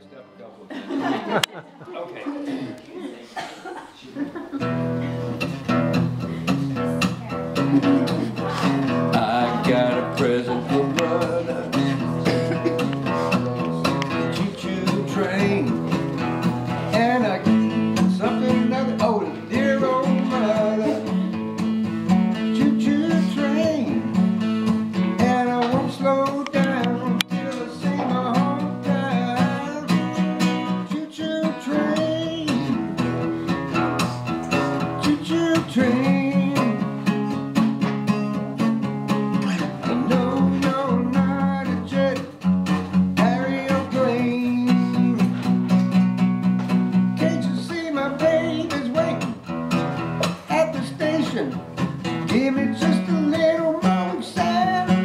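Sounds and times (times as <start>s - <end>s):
acoustic guitar melody: 4.4s - 55.0s.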